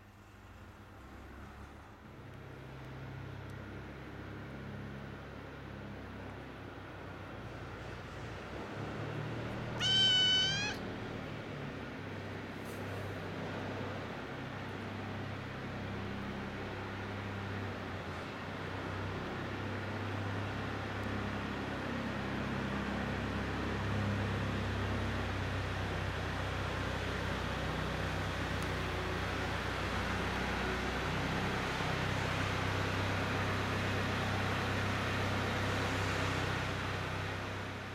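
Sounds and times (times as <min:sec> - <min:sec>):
low mechanical hum: 0:00.0 - 0:37.9.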